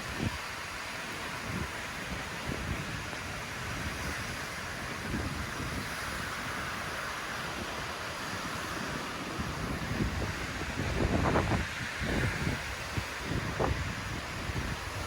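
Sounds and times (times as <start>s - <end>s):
hurricane wind blowing: 0.0s - 15.0s
wind buffeting microphone: 0.0s - 15.0s.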